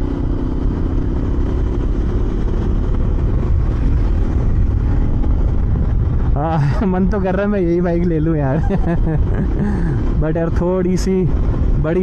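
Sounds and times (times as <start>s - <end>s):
motorcycle engine at low revs: 0.0s - 12.0s
wind rumble on microphone: 0.0s - 12.0s.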